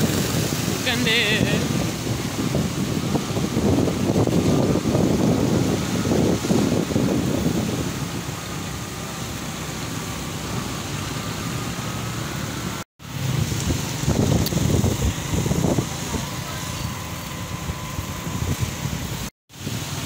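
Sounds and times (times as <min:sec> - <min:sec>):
motorcycle engine running: 0:00.0 - 0:20.0
road and air noise: 0:00.0 - 0:20.0
wind buffeting microphone: 0:00.0 - 0:20.0.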